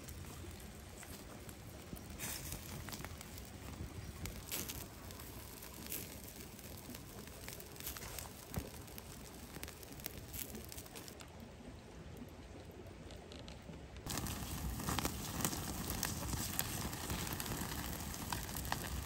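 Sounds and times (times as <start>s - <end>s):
campfire embers crackling: 0.0s - 19.0s.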